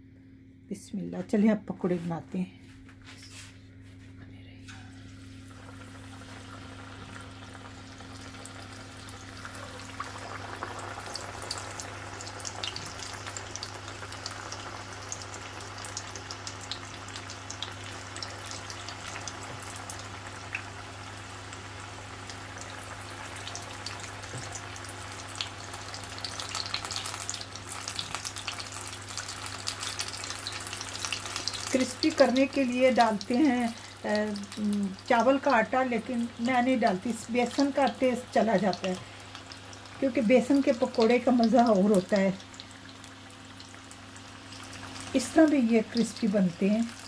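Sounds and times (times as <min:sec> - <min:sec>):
batter deep-frying in oil: 0:04.7 - 0:47.0.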